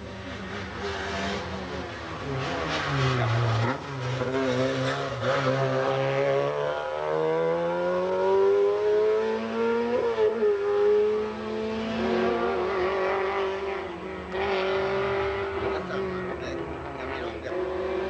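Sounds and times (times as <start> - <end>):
race car engine accelerating hard: 0.0 - 18.0.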